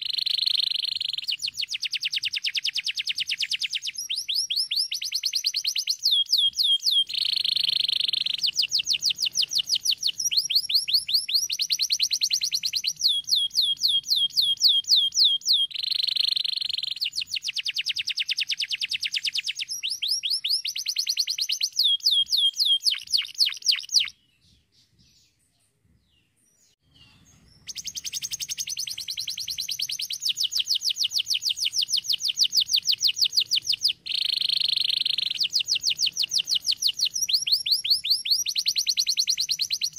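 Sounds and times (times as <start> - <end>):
canary singing: 0.0 - 25.4, 26.6 - 39.9.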